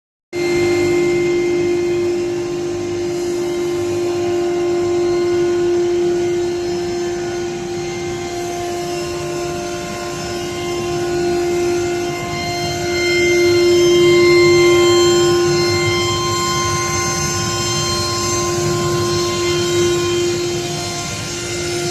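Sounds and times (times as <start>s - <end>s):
cnc router spindle cutting: 0.4s - 21.9s.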